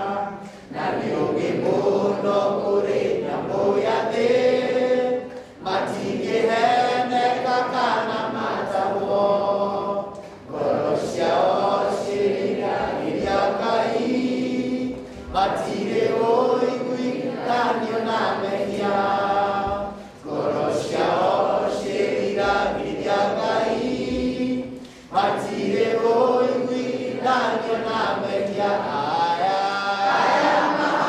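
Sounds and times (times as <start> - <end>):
group of people singing: 0.0 - 31.0.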